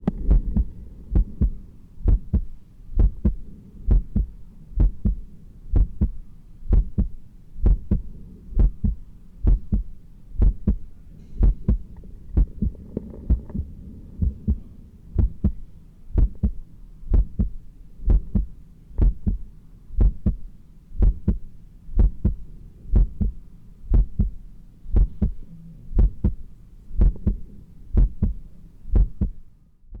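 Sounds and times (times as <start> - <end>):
heartbeat through stethoscope: 0.0 - 25.4, 26.0 - 30.0
low hum: 0.0 - 30.0.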